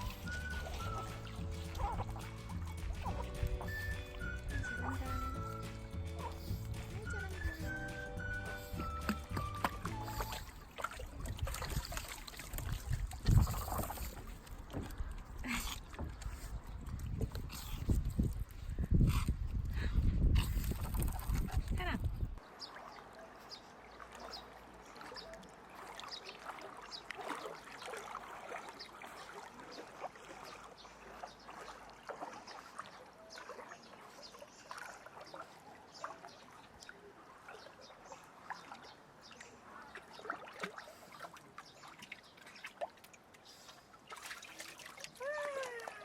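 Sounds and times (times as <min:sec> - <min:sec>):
dog paddling splashes: 0:00.0 - 0:18.3, 0:20.6 - 0:46.0
pool water lapping: 0:00.0 - 0:46.0.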